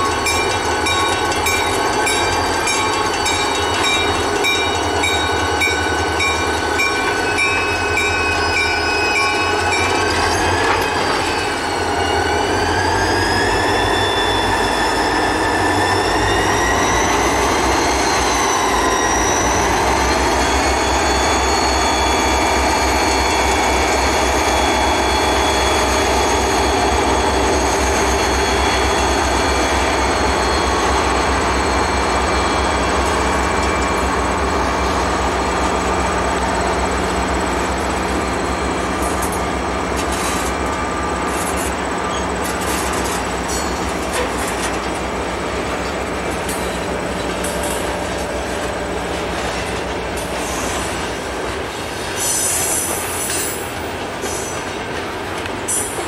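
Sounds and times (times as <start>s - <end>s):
high wheel squeal: 0.0s - 44.8s, 45.6s - 54.8s
diesel locomotive engines rumbling: 0.0s - 56.0s.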